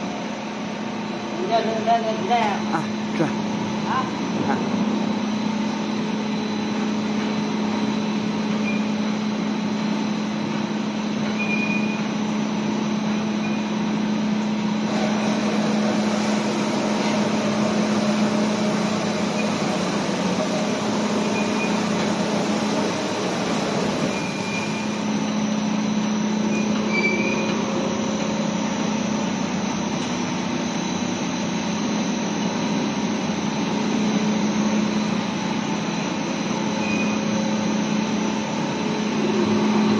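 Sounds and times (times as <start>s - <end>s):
steam boiler plant machine noise: 0.0s - 39.9s.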